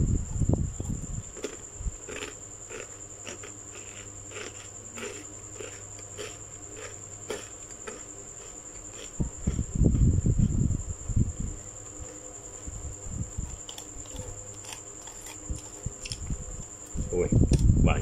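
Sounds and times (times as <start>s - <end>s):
crunchy chewing: 0.0s - 17.6s.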